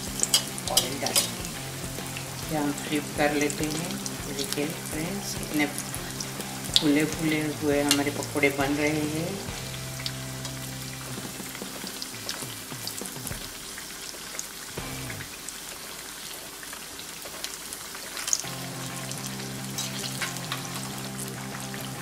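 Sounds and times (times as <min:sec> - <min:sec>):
potato slices deep-frying in oil: 0:00.0 - 0:22.0.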